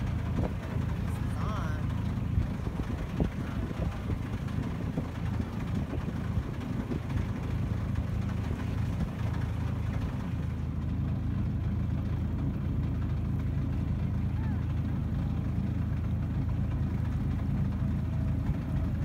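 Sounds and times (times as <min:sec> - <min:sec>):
boat engine rumbling: 0:00.0 - 0:19.0
water noise: 0:00.0 - 0:19.0
wind: 0:00.0 - 0:19.0.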